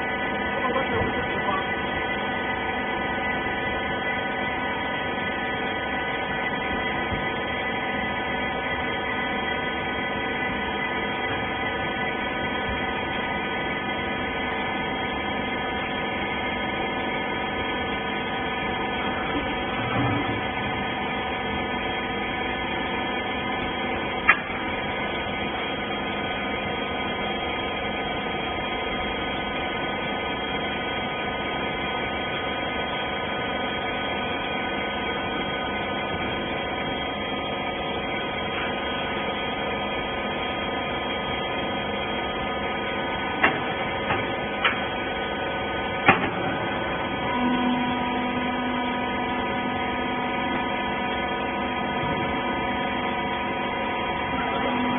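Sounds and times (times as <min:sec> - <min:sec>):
hydraulic machine humming: 0:00.0 - 0:54.9.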